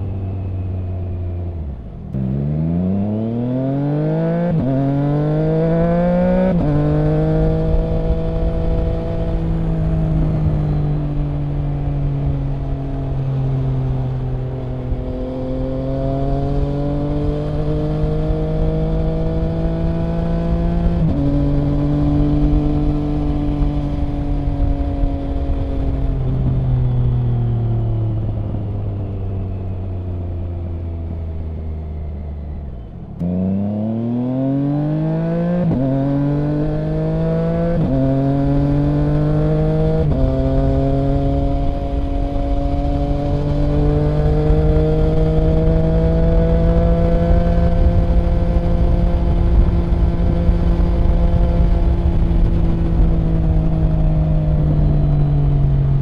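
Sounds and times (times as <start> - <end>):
motorcycle engine riding: 0.0 - 56.0.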